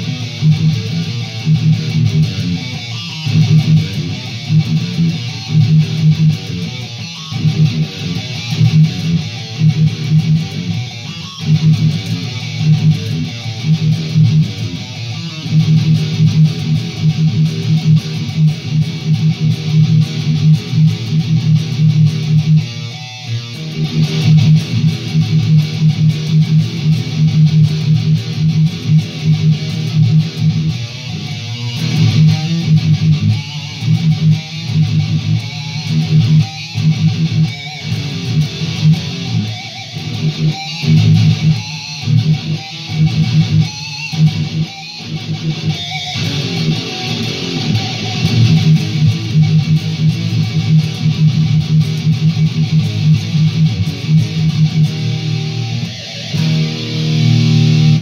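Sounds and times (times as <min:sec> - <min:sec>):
electric guitar playing riffs: 0:00.0 - 0:58.0.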